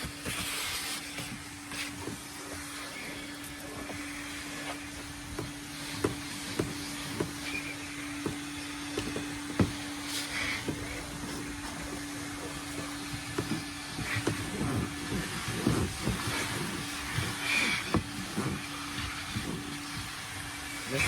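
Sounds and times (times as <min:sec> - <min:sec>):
vacuum cleaner running: 0:00.0 - 0:21.0
vacuum nozzle knocking: 0:00.0 - 0:21.0.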